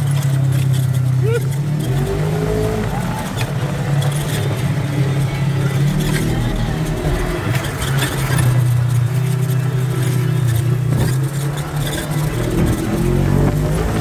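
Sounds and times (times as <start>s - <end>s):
knocks and rattles: 0.0s - 14.0s
utility vehicle engine running: 0.0s - 14.0s.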